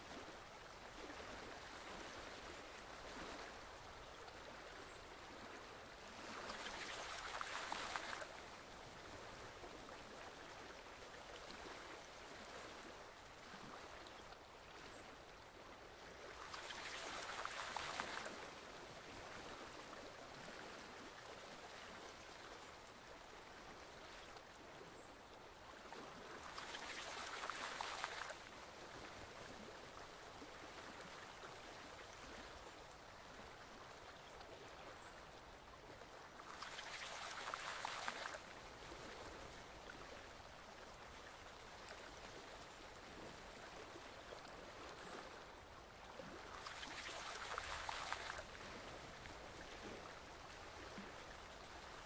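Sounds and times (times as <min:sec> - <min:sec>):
forest stream flowing: 0:00.0 - 0:52.0
rush of water: 0:00.0 - 0:52.0.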